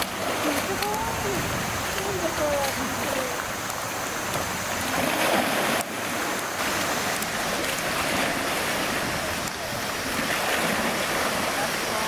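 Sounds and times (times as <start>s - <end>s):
steady rush of water: 0.0s - 12.0s
water splashing: 0.0s - 12.0s.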